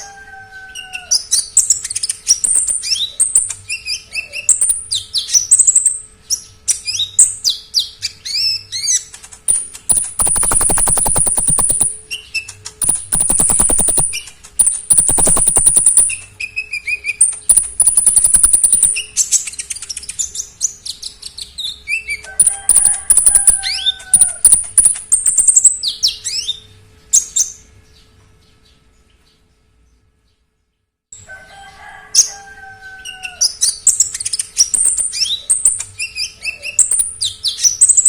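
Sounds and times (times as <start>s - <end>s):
bird singing trills and whistles: 0.7s - 27.6s, 33.4s - 38.0s.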